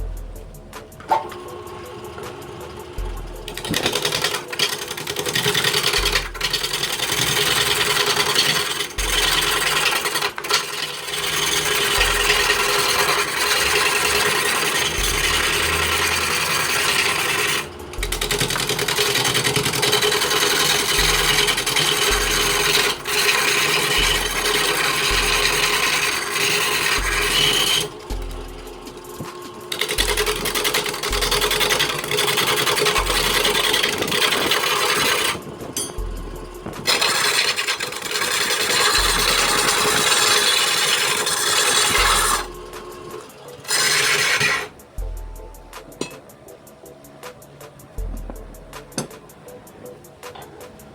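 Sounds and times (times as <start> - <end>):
gouge scraping spinning wood: 0.0 - 50.9
lathe motor hum: 0.0 - 50.9.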